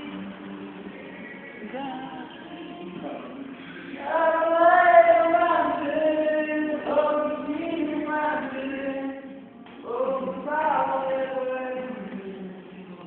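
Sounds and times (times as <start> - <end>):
voices singing long notes: 0.0 - 13.0.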